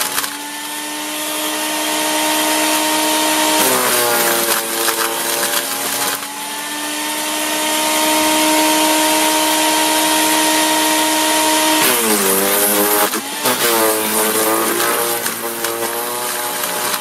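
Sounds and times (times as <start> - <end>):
wood being chipped: 0.0 - 17.0
wood chipper whining: 0.0 - 17.0.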